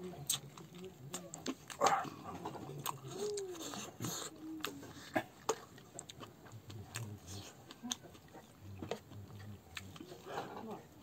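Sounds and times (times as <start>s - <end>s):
wet chewing and lip smacks: 0.2s - 10.3s
murmur in the throat: 1.1s - 5.7s, 6.6s - 11.0s.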